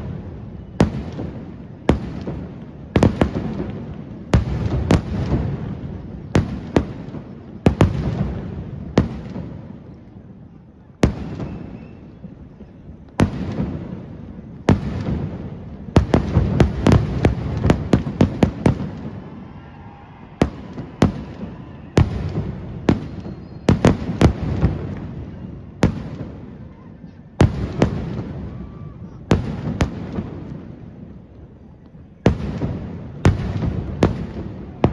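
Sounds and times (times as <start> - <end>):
fireworks bursting with sharp bangs: 0.0 - 34.9.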